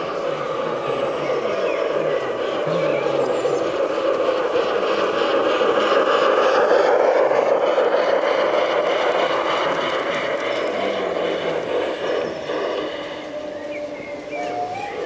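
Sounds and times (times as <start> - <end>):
model train wheels rolling: 0.0 - 15.0.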